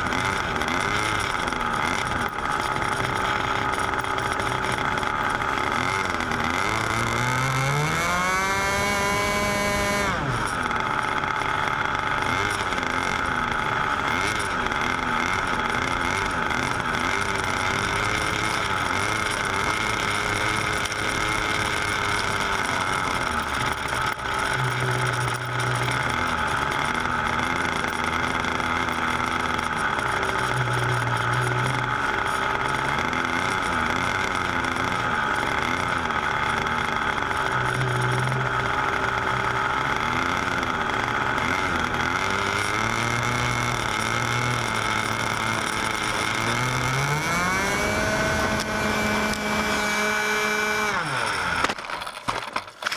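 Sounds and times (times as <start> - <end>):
model airplane engine running: 0.0 - 52.9.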